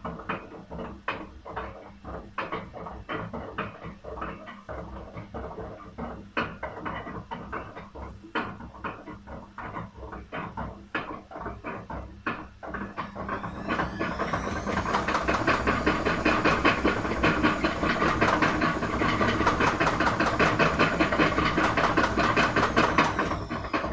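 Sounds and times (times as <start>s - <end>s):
fast rattling and banging: 0.0s - 23.9s
washing machine drum knocking: 0.0s - 23.9s
washing machine spin whine: 0.0s - 23.9s.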